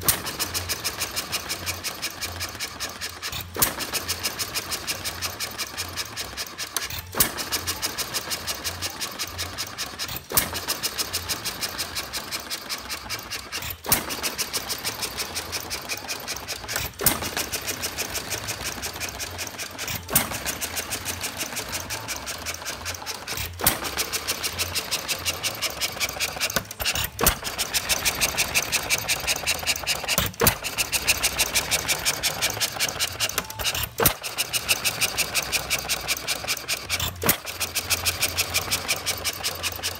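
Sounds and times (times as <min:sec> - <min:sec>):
engine clicking while coasting: 0:00.0 - 0:39.9.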